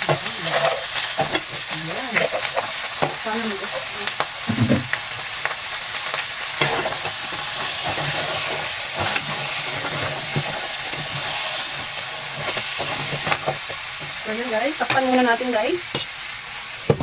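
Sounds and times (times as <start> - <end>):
crabs sizzling in hot oil: 0.0 - 17.0.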